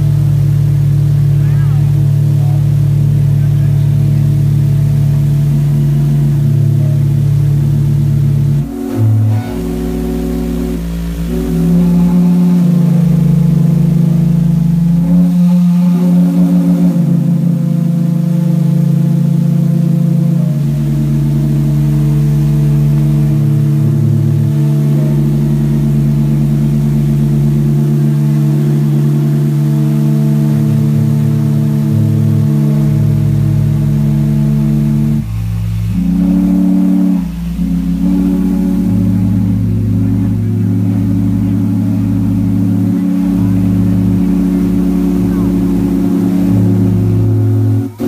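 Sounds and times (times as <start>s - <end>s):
steam whistles blowing chord: 8.6s - 48.0s.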